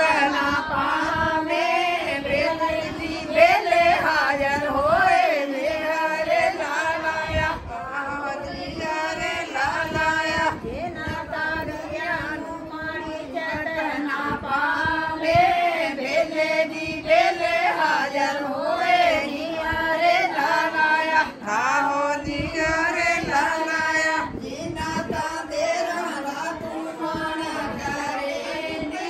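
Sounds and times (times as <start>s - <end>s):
group of women singing: 0.0s - 29.0s.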